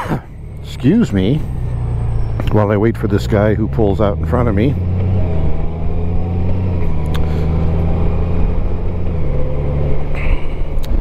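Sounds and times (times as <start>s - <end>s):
motorcycle engine running: 0.0s - 9.4s
wind and road noise: 0.0s - 11.0s.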